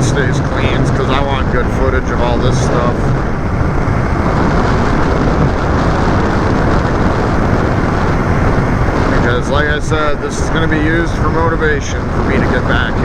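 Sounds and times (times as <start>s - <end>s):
road rumble: 0.0s - 13.0s
wind rush on microphone: 0.0s - 13.0s.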